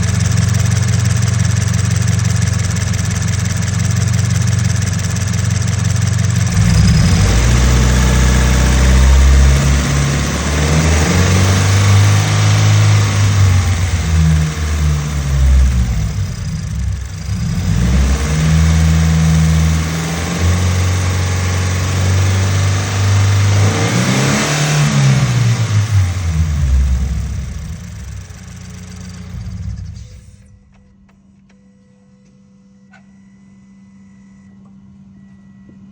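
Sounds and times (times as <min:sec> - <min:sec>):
engine rattle: 0:00.0 - 0:31.1
car engine idling and revving: 0:00.0 - 0:31.2.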